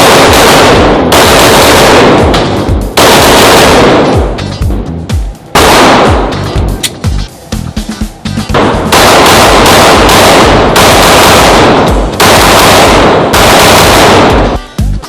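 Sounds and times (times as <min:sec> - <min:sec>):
pistol shots in rapid strings: 0:00.0 - 0:04.8, 0:05.5 - 0:07.1, 0:08.5 - 0:14.6.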